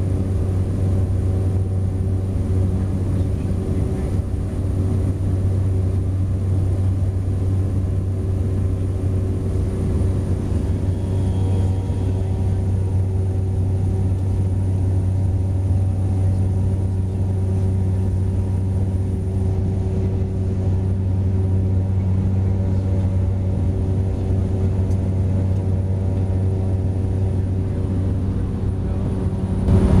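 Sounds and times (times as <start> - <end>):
propeller plane cabin drone: 0.0 - 30.0.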